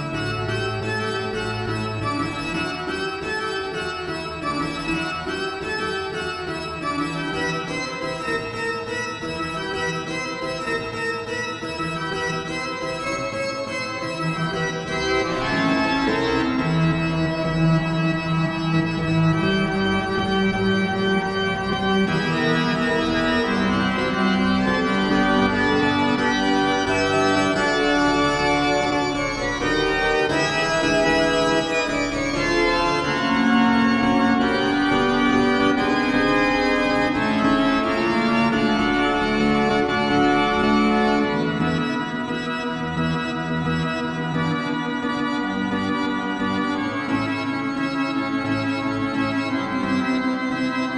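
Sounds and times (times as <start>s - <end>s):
organ chords: 0.0s - 50.9s.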